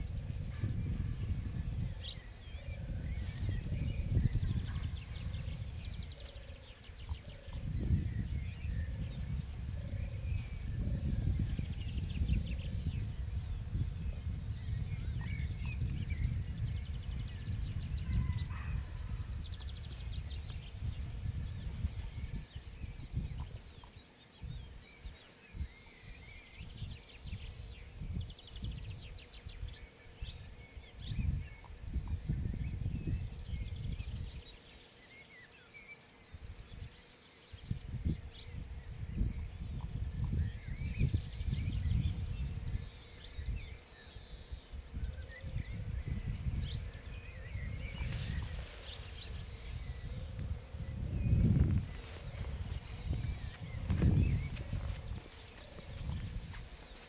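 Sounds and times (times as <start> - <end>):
wind buffeting microphone: 0.0 - 34.6, 36.3 - 57.0
small birds chirping and trilling: 0.0 - 57.0.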